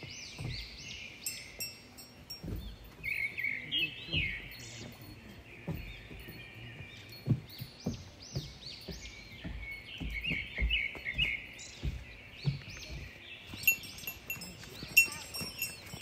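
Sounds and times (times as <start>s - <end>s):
small birds chirping: 0.0s - 16.0s
soft low thumps: 0.0s - 16.0s.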